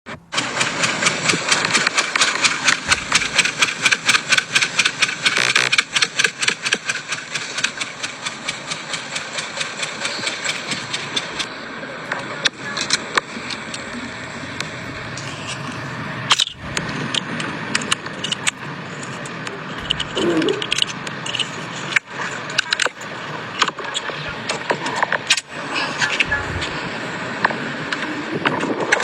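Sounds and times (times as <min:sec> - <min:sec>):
car engine running: 0:00.2 - 0:28.4
exhaust ticking: 0:00.3 - 0:28.3.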